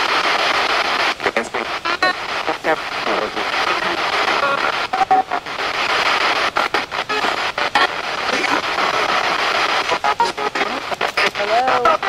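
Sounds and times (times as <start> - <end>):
radio static sweeping: 0.0 - 12.0.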